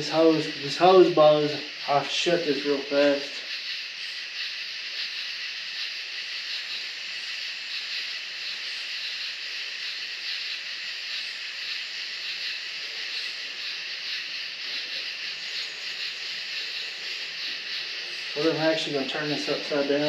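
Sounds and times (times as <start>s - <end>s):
refrigerant hissing through hoses: 0.0s - 20.0s.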